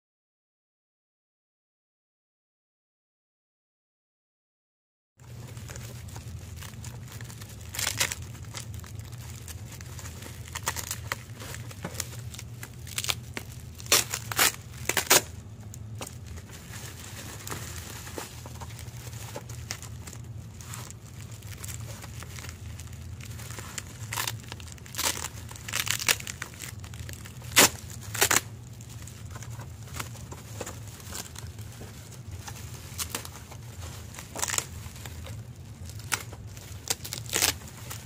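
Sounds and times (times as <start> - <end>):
bubble wrap crackling: 5.2 - 38.0
low hum: 5.2 - 38.0
sticky tape peeling: 5.4 - 38.0.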